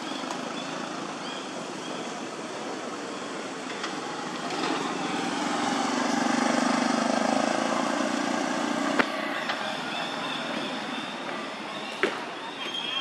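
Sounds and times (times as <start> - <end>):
vehicle engine hum passing: 0.0 - 12.6
outdoor background noise: 0.0 - 13.0.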